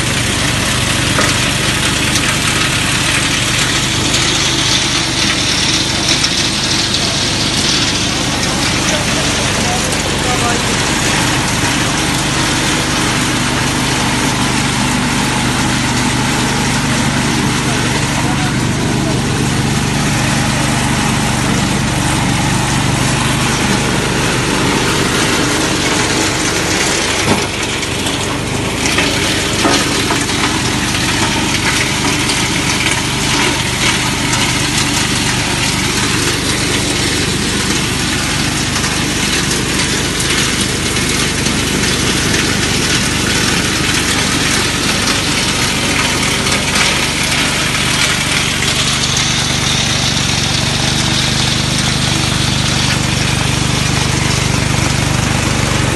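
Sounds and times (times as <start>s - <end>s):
small petrol engine running: 0.0s - 55.9s.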